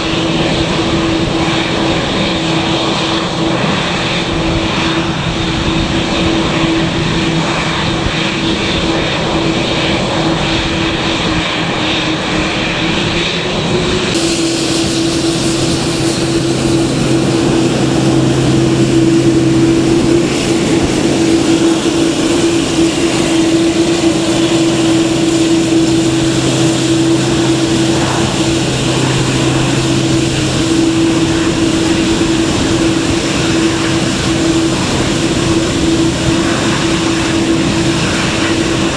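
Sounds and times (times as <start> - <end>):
aircraft engines droning: 0.0 - 38.9.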